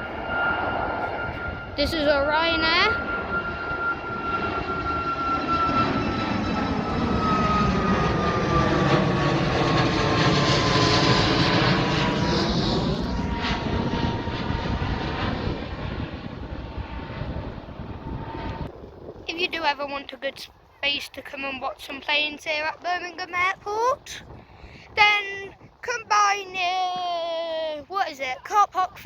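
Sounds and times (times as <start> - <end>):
jet airliner passing by: 0.0 - 29.0.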